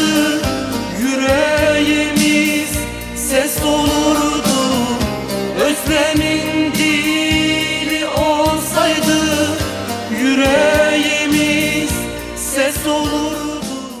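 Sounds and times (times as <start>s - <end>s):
song with ornamented melody: 0.0s - 14.0s
steady beat: 0.0s - 14.0s.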